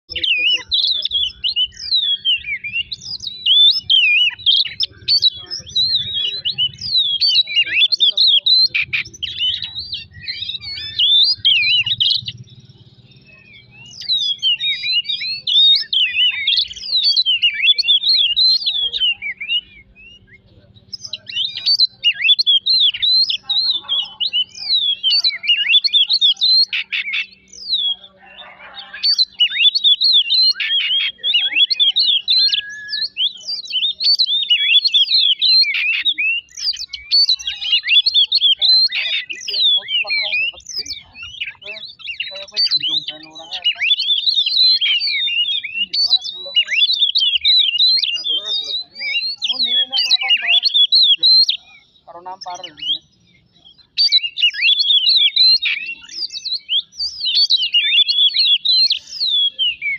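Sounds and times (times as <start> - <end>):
magpie-robin singing: 0.0 - 59.9.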